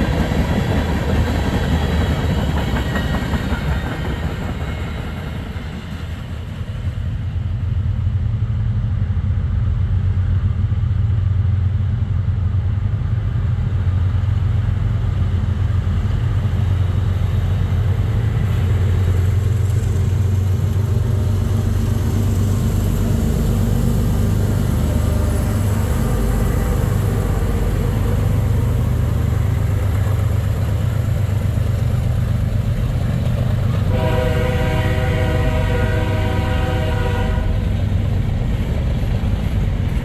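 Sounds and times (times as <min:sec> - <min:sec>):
diesel locomotives rumbling: 0:00.0 - 0:40.0.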